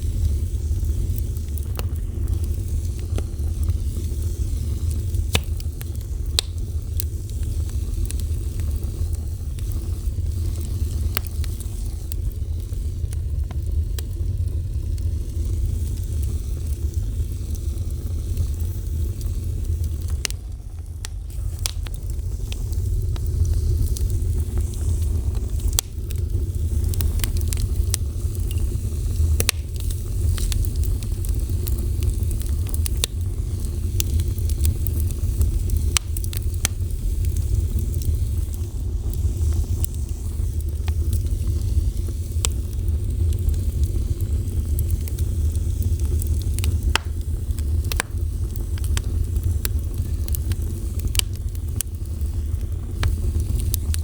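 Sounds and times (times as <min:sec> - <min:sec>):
fire burning with crackles: 0:00.0 - 0:54.0.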